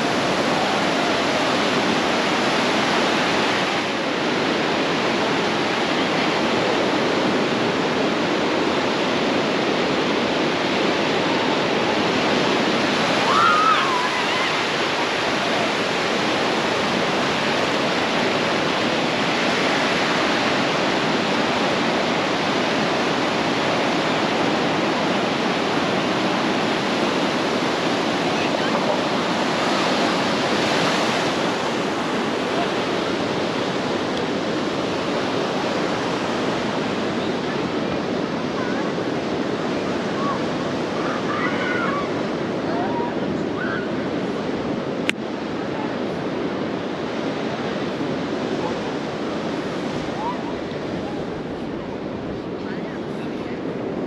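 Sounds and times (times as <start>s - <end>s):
ocean surf washing in: 0.0s - 54.0s.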